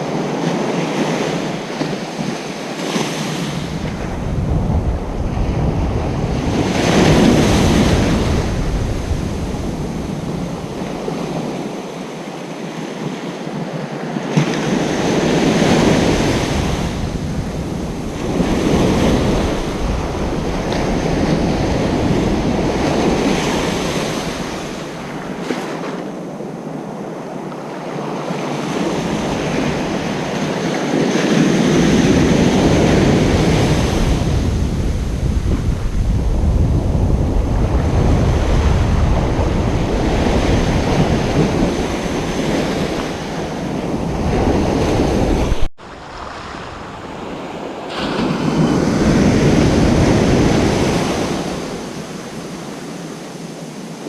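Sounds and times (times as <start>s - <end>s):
waves breaking on beach: 0.0s - 54.0s
wind rumble on microphone: 0.0s - 54.0s.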